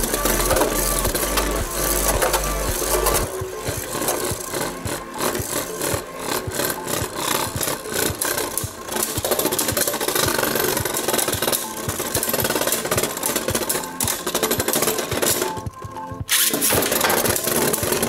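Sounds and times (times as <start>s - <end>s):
spinning tops whirring on plastic: 0.0s - 15.7s, 16.3s - 18.0s
background music: 0.0s - 18.0s.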